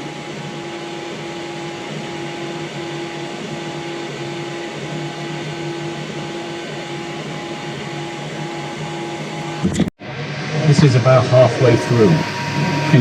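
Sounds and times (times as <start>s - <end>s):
fan hum: 0.0s - 13.0s
stepper motors whining: 0.0s - 13.0s.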